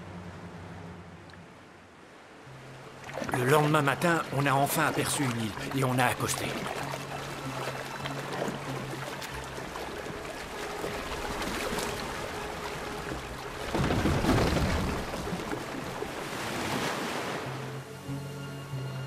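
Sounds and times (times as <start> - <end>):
soft background music: 0.0 - 19.0
surf and rushing waves: 0.0 - 19.0.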